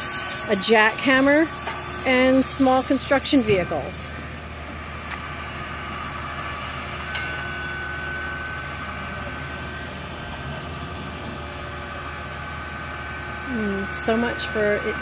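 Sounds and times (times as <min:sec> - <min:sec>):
idling vehicle engines hum: 0:00.0 - 0:15.0
thin high whine: 0:00.0 - 0:15.0.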